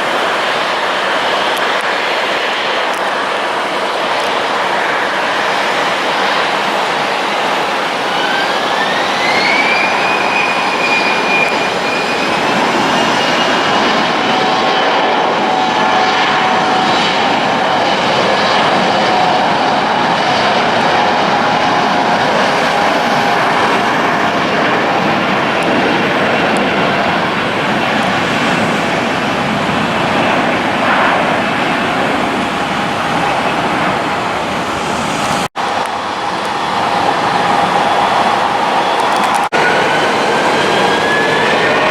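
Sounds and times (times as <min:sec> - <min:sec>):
jet airliner engines roaring: 0:00.0 - 0:41.9
high engine whine rising: 0:04.8 - 0:41.9.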